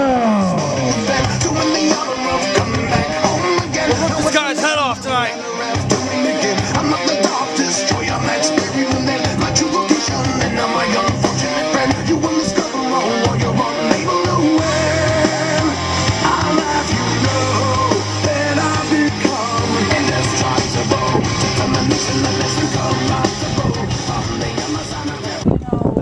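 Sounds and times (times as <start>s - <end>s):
rock music with singing: 0.0s - 25.8s.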